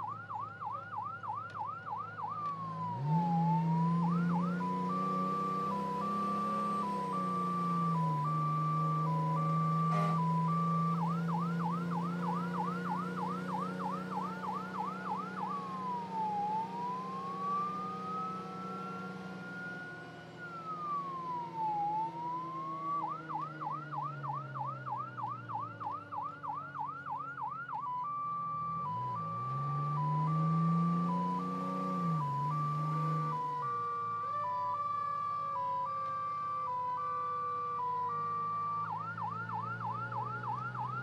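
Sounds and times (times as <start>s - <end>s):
electronic siren cycling modes: 0.0s - 41.0s.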